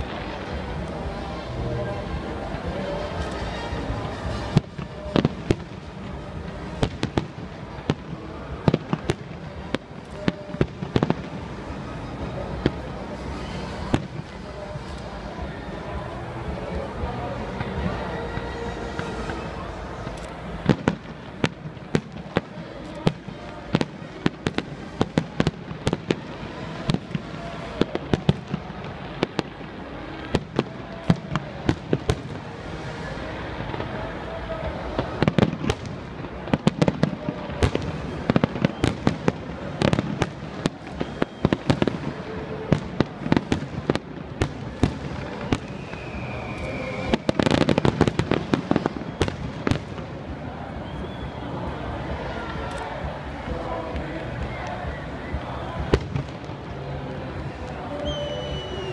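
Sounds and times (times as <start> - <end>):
fireworks bursts and crackling bangs: 0.0 - 58.9.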